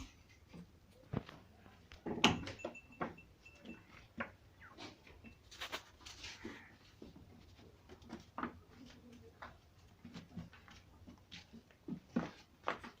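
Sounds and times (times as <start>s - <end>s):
goats knocking and shuffling: 0.0s - 13.0s.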